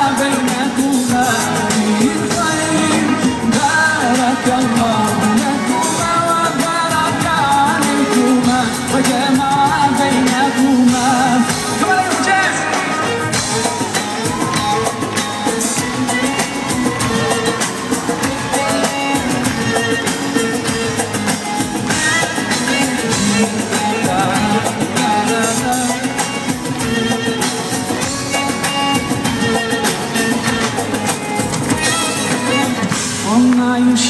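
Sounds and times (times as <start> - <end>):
drum kit: 0.0 - 34.0
guitar: 0.0 - 34.0
live band playing pop song: 0.0 - 34.0.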